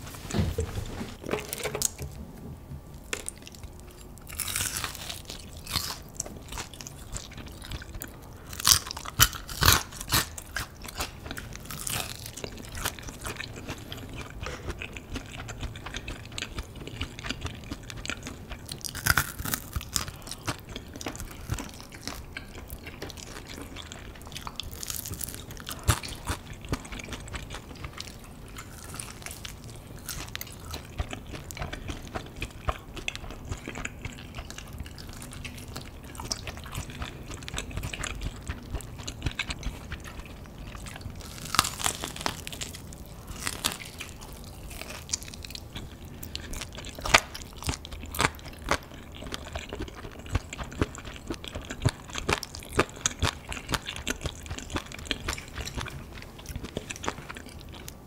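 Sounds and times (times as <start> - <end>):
crunching fried chicken: 3.1 - 58.0.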